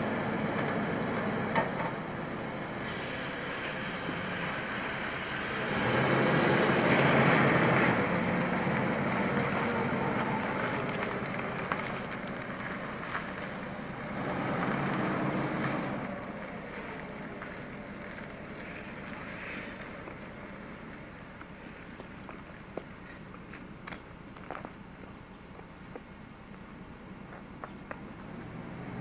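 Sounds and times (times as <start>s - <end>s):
car pulling away: 0.0s - 25.4s, 26.3s - 29.0s
vehicle noise: 0.0s - 29.0s.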